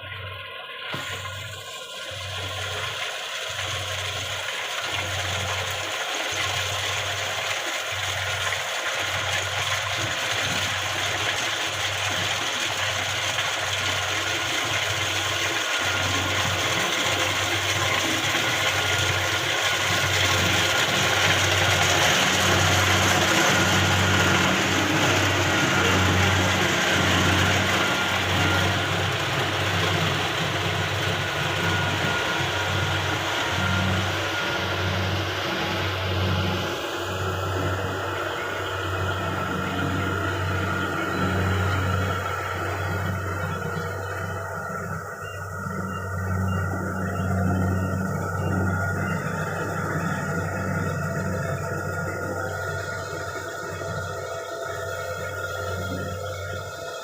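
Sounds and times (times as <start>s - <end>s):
combine harvester clatter: 0.0s - 57.0s.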